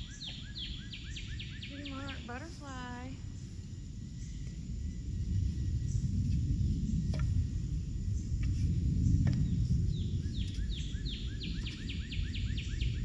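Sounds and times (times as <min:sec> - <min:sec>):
songbird singing down-slurred notes: 0:00.0 - 0:13.0
wind rumbling on microphone: 0:00.0 - 0:13.0.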